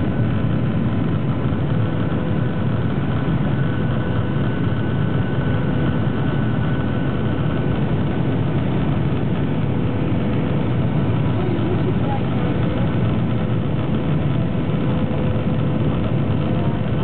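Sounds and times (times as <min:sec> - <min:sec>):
jet engines and rushing air: 0:00.0 - 0:17.0.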